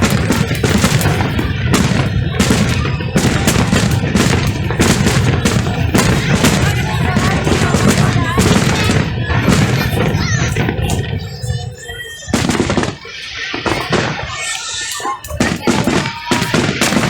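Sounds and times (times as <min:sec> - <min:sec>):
fireworks bangs and cracks: 0:00.0 - 0:17.0.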